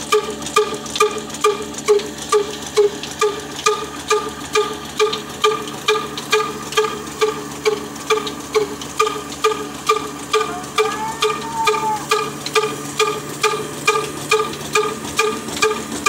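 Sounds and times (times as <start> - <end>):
diesel engine knocking: 0.0 - 16.0.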